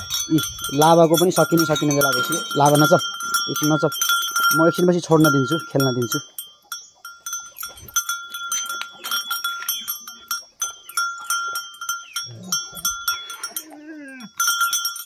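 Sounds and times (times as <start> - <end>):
chain rattling: 0.0 - 15.0
metal bell clanking: 0.0 - 15.0.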